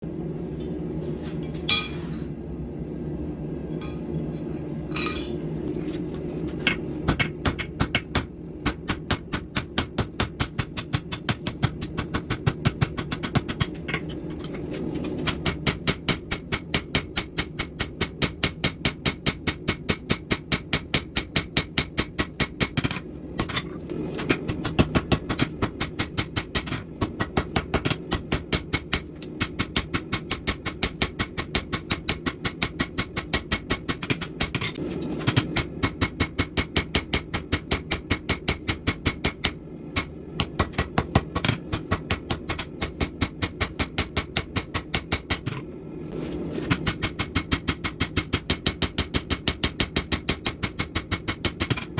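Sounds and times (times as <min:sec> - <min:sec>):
steady low hum: 0:00.0 - 0:51.9
hammering on steel anvil: 0:01.7 - 0:02.0, 0:07.1 - 0:14.1, 0:15.2 - 0:23.6, 0:24.5 - 0:45.6, 0:46.8 - 0:51.9.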